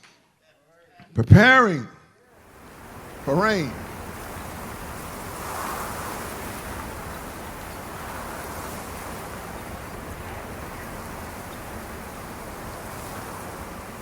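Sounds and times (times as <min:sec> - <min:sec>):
steady rushing noise: 0:02.4 - 0:14.0.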